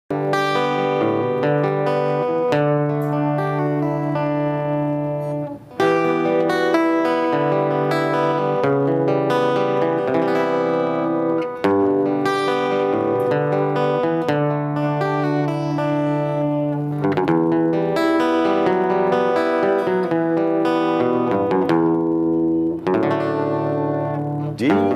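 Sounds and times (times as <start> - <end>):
plucked guitar chords: 0.1 - 24.9.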